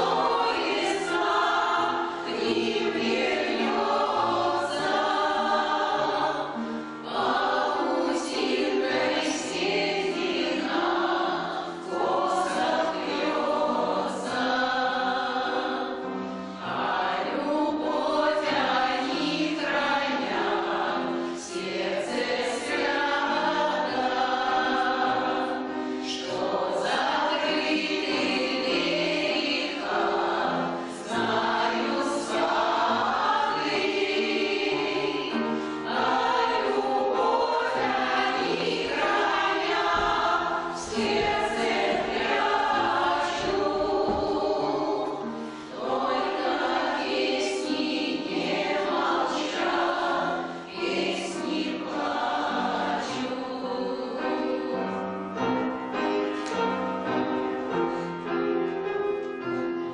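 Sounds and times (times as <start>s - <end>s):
choir singing: 0.0s - 58.5s.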